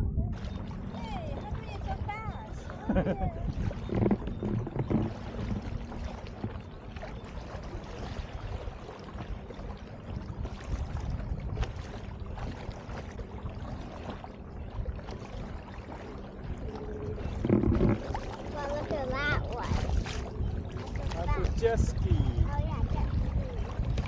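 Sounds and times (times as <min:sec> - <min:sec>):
steady low rumble: 0:00.0 - 0:06.9, 0:08.5 - 0:24.0
water lapping against kayak hull: 0:00.0 - 0:24.0.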